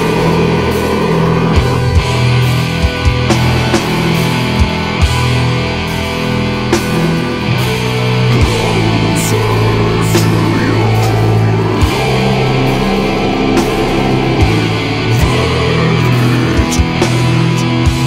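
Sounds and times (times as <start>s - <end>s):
distorted guitar chords: 0.0s - 18.0s.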